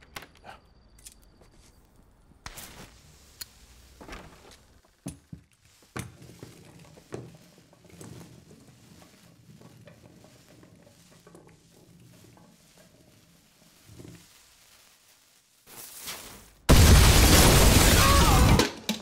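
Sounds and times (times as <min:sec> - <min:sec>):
fuse hissing and crackling: 0:00.3 - 0:18.6.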